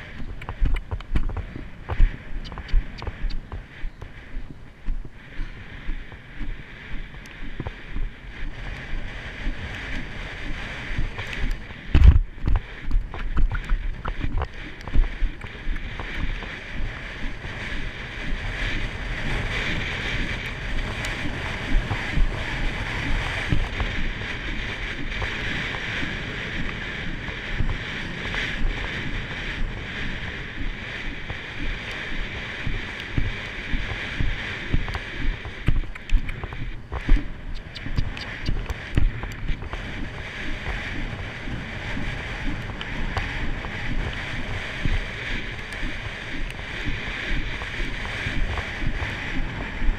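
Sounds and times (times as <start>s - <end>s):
horse hooves cantering: 0.0s - 49.9s
wind on microphone: 0.0s - 49.9s.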